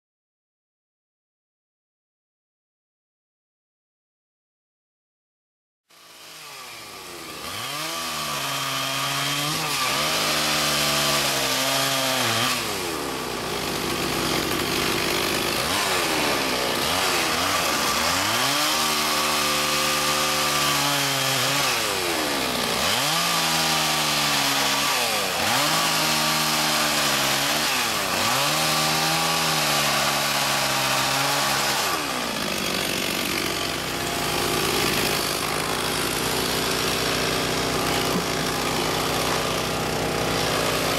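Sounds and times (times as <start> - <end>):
chainsaw cutting logs: 5.9 - 40.9.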